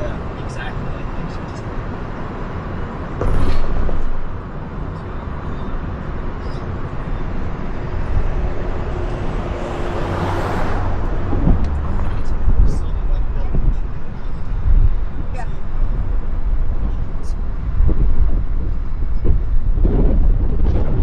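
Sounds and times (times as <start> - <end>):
car road rumble and tyre hiss: 0.0 - 21.0.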